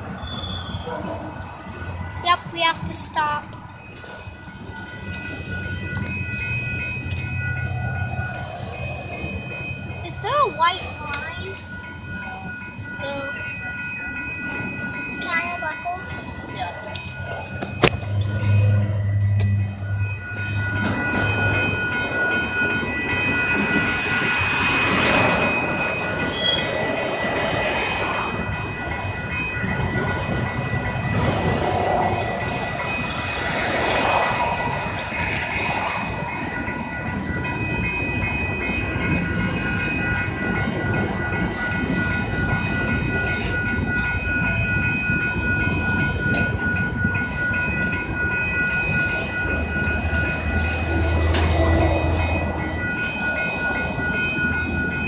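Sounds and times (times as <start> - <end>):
crossing bell ringing: 0.0 - 55.0
freight train wheels rumbling: 0.0 - 55.0.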